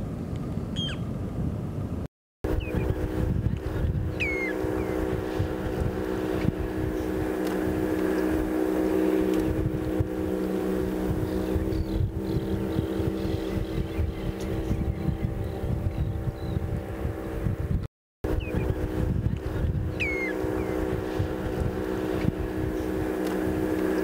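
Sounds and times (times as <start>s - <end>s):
wind buffeting microphone: 0.0s - 24.0s
engine running steadily: 2.4s - 24.0s.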